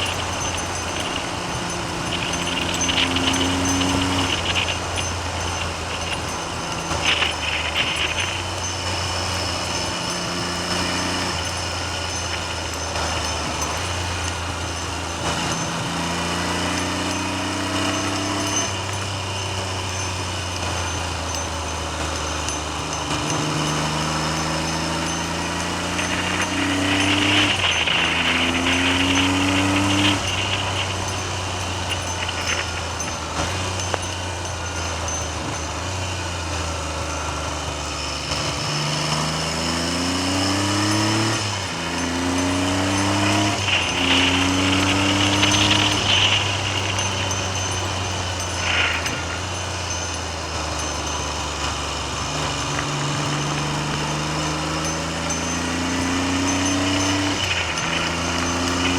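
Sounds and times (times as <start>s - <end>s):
motorcycle engine revving: 0.0s - 58.9s
wind noise on microphone: 0.0s - 58.9s.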